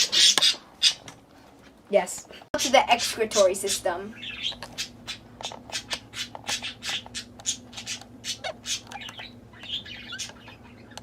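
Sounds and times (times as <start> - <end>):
budgerigars chirping and chattering: 0.0 - 1.1, 2.6 - 11.0.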